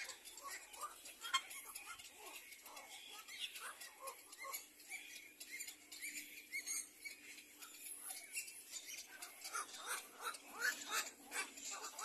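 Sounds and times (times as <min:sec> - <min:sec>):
nestlings chirping: 0:00.0 - 0:12.0.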